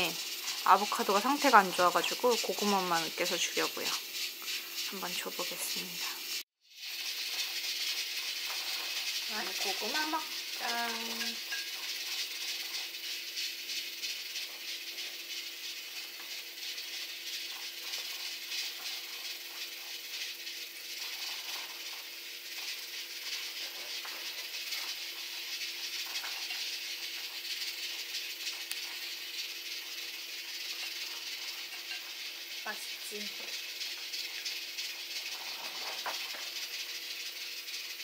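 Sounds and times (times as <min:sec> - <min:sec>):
steady hiss: 0:00.0 - 0:38.0.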